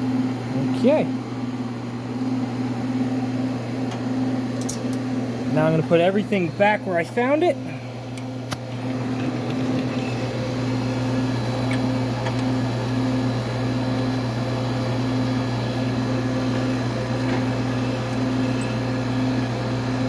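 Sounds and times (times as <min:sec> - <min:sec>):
air conditioning unit humming: 0:00.0 - 0:20.0.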